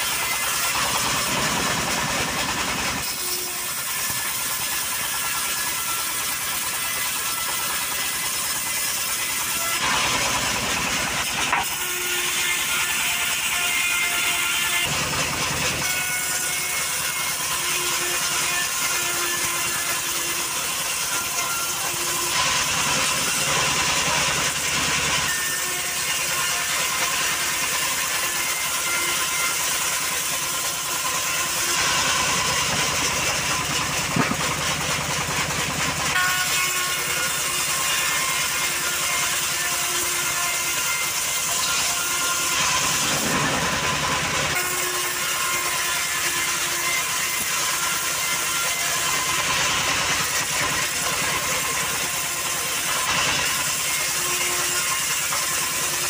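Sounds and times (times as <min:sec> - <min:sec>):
band sawmill cutting wood: 0:00.0 - 0:56.0.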